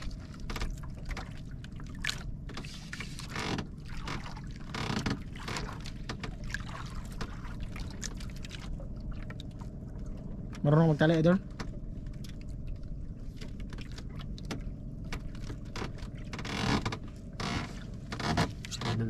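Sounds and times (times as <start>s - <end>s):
steady low rumble: 0.0s - 19.0s
waves slapping against boat hull: 0.0s - 19.0s.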